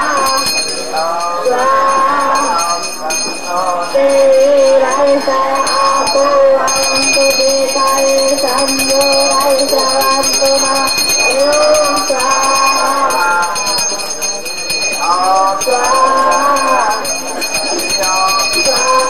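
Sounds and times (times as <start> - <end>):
bells ringing: 0.0 - 19.0
voices chanting: 0.0 - 19.0.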